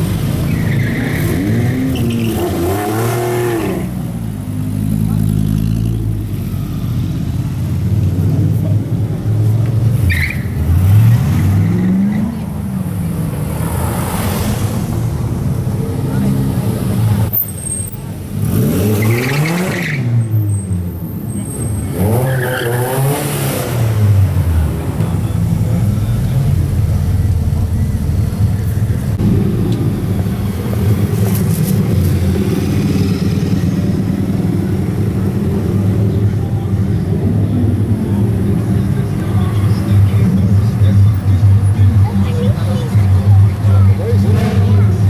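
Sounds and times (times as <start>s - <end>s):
sports car engines rumbling: 0.0s - 45.0s.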